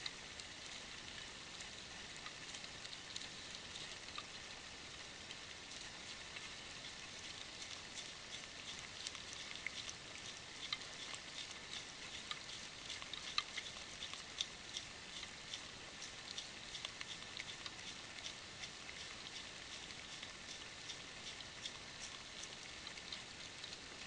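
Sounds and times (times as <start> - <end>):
deer licking and gnawing: 0.0 - 24.0
steady faint hiss: 0.0 - 24.0.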